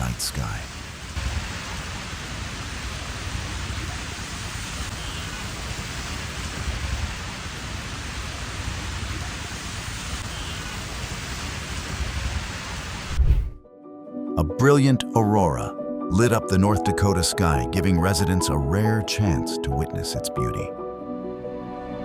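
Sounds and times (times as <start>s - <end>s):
steady rain hiss: 0.0s - 13.6s, 15.4s - 22.0s.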